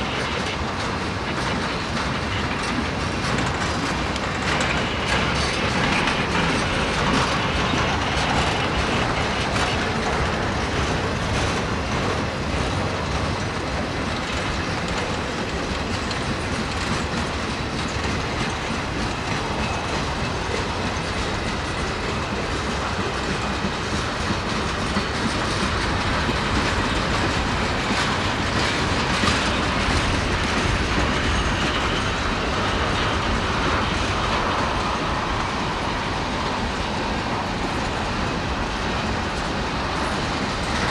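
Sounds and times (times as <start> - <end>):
freight train rumble: 0.0 - 40.9
wheels clicking over rail joints: 0.0 - 40.9.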